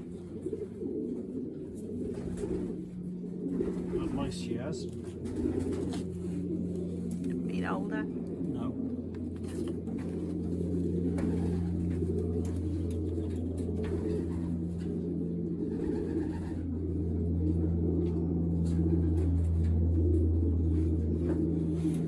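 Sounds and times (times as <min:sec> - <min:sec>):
pigeons cooing: 0:00.0 - 0:22.0
steady low hum: 0:00.0 - 0:22.0.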